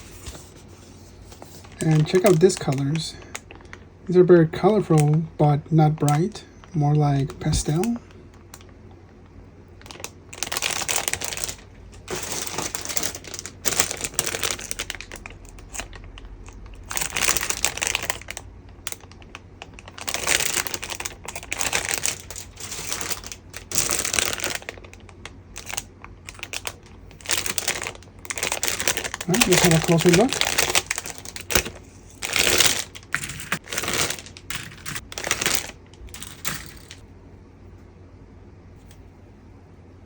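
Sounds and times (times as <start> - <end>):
plastic bags crinkling: 0.0 - 8.8, 9.8 - 37.0.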